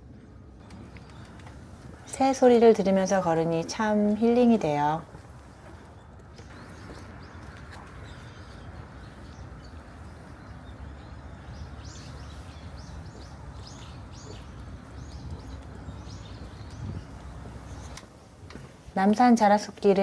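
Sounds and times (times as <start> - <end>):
small birds chirping: 0.6 - 20.0.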